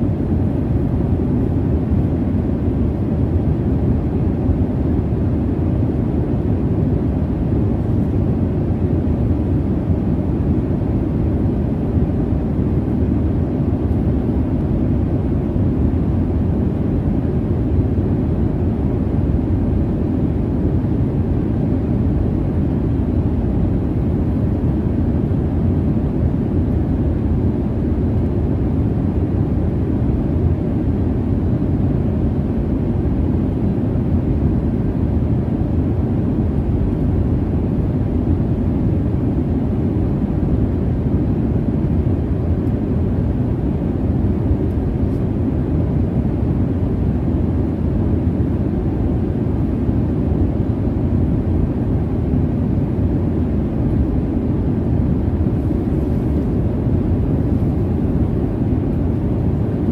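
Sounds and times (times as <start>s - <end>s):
jet airliner cabin rumble: 0.0s - 59.9s.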